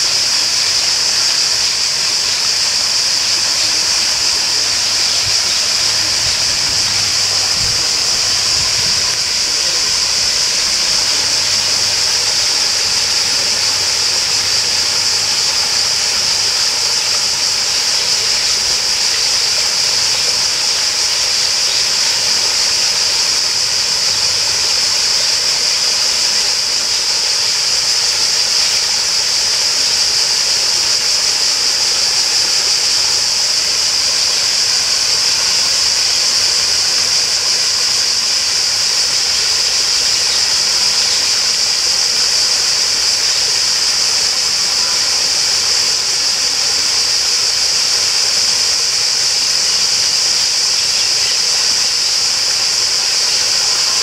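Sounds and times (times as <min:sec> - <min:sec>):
flowing water: 0:00.0 - 0:54.0
high-pitched hiss: 0:00.0 - 0:54.0.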